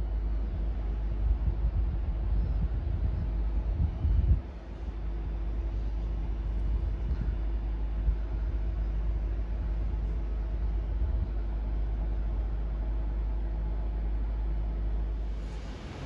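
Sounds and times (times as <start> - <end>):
faint steady hum: 0.0 - 16.0
wind buffeting microphone: 0.0 - 16.0.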